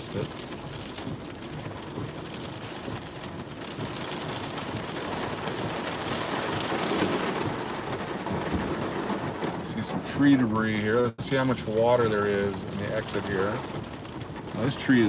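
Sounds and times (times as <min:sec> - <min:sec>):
heavy rain pattering on a car: 0:00.0 - 0:15.0.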